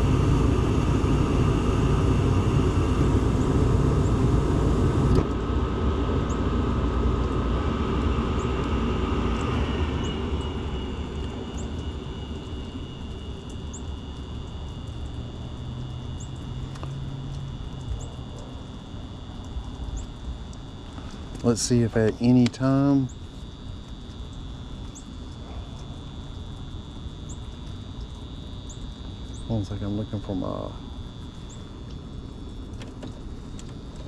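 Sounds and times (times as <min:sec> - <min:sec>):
faint motor whine: 0:00.0 - 0:34.0
gas furnace rumbling: 0:00.0 - 0:34.0.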